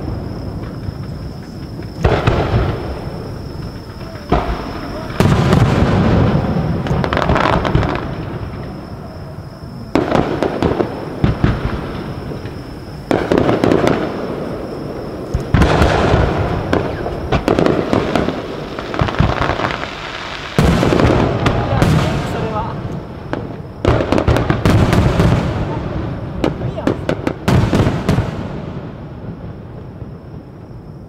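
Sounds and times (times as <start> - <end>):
firework shells booming: 0.0 - 30.6
firework crackling: 0.0 - 30.8.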